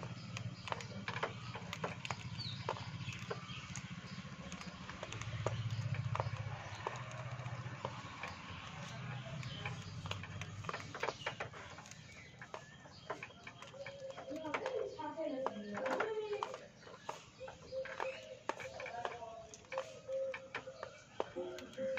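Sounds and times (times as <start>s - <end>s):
beaks crunching a biscuit: 0.0s - 21.9s.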